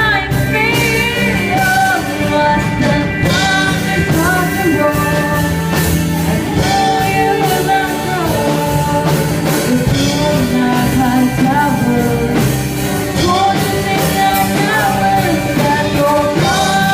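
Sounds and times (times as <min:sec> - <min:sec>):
acoustic worship song: 0:00.0 - 0:16.9.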